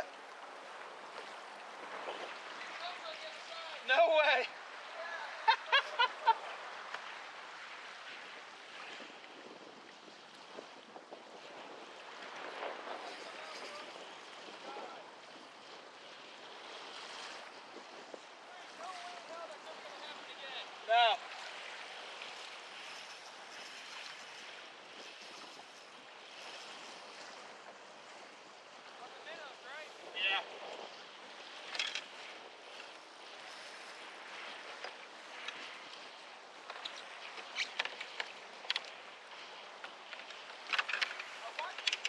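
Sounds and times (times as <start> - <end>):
water washing against kayak: 0.0 - 42.0
wind: 0.0 - 42.0.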